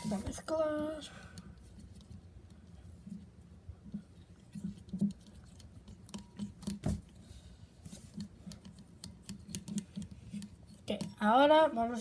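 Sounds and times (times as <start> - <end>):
utensil stirring slime: 0.0 - 12.0.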